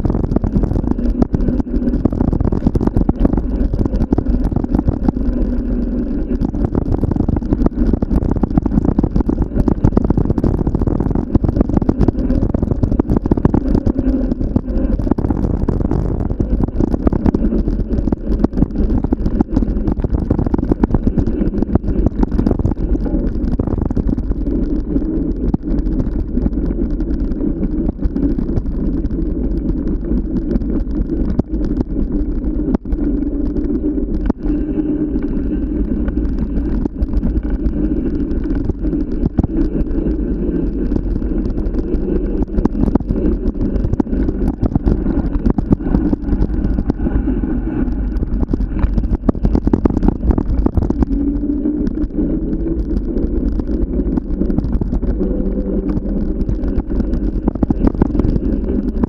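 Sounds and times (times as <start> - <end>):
vehicle rumbling in motion: 0.0 - 59.0
wind buffeting microphone: 0.0 - 59.0.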